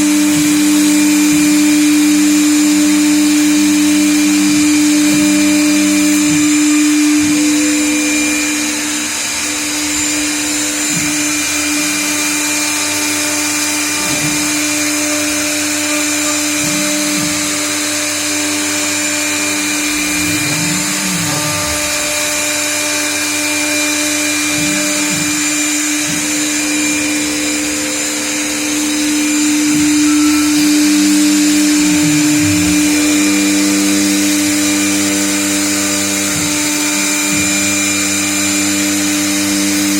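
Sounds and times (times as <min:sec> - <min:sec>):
router spindle whine: 0:00.0 - 0:39.9
low motor tones gliding: 0:01.3 - 0:39.9.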